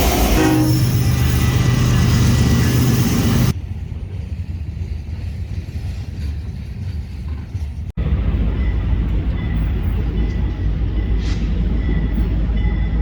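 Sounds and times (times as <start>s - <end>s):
diesel locomotive engine drone: 0.0s - 13.0s
rail and wind noise: 0.0s - 13.0s.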